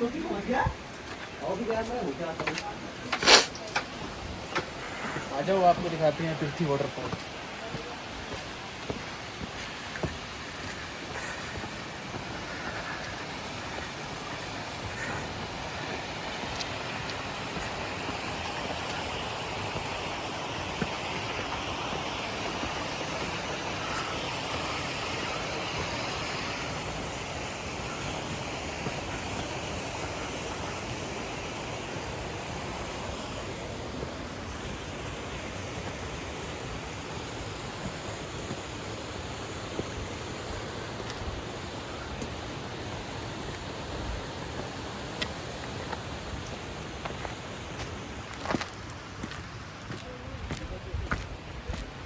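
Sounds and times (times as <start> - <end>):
waterfall rushing: 0.0 - 48.4.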